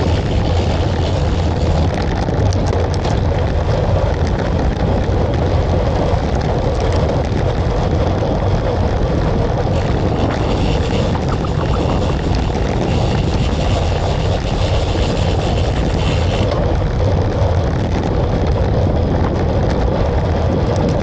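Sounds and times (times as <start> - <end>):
engine drone: 0.0 - 21.0
rushing noise: 0.0 - 21.0.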